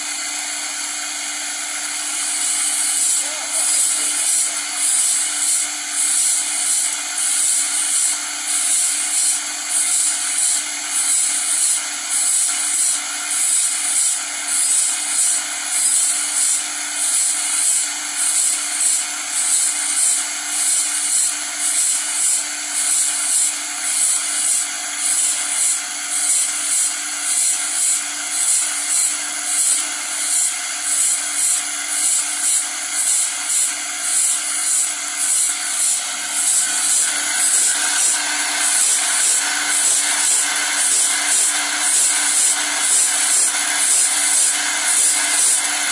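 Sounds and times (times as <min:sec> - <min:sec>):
grinding wheel rasping on blade: 0:00.0 - 0:45.9
motor hum: 0:00.0 - 0:45.9.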